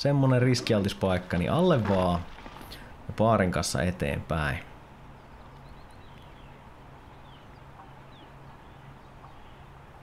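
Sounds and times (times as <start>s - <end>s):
steady outdoor hum: 0.0s - 10.0s.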